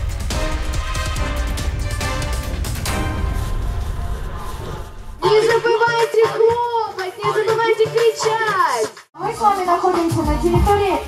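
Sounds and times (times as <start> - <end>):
music with driving beat and heavy bass: 0.0 - 4.2, 5.2 - 11.0.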